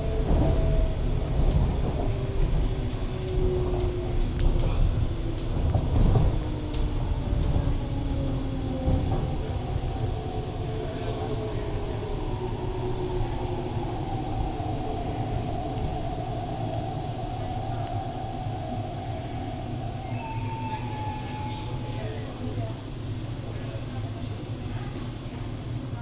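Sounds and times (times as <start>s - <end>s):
wheels rumbling on track: 0.0s - 26.0s.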